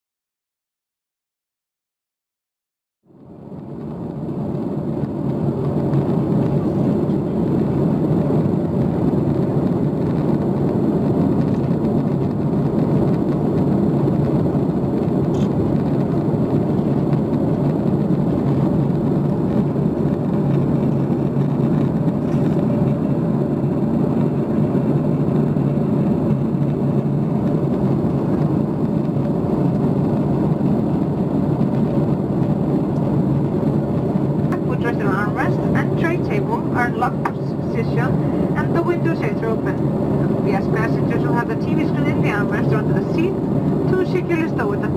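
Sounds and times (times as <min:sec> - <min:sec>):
airplane cabin engine and airflow rush: 0:03.1 - 0:44.9
faint steady hum: 0:03.1 - 0:44.9.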